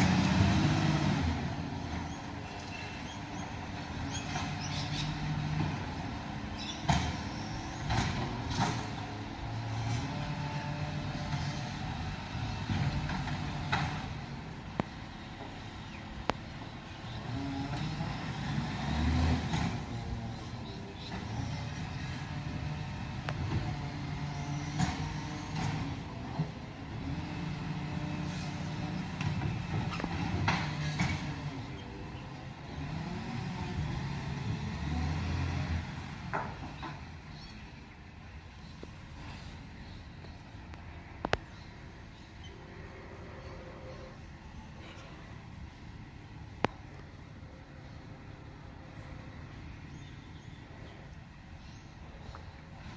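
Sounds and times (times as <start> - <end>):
heavy truck engine running: 0.0 - 42.4.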